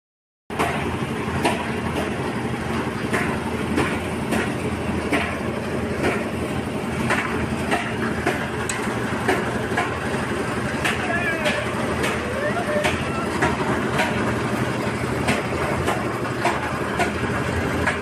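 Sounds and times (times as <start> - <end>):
concrete mixer rumbling: 0.5 - 18.0.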